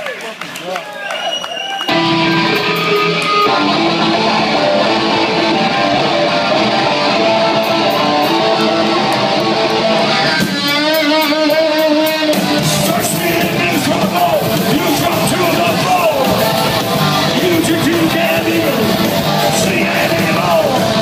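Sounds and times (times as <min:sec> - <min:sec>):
punk rock band playing live: 0:01.9 - 0:21.0.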